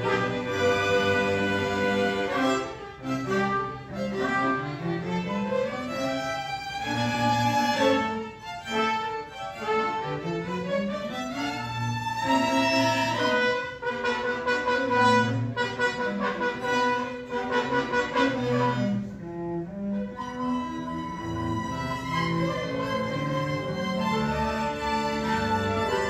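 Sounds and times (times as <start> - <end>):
string ensemble playing classical piece: 0.0 - 26.0.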